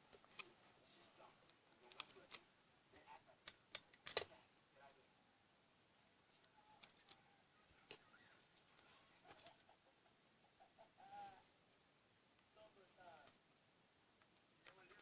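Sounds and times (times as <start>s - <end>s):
faint clicks and rustles: 0.0s - 5.1s, 5.8s - 10.8s, 11.4s - 15.0s.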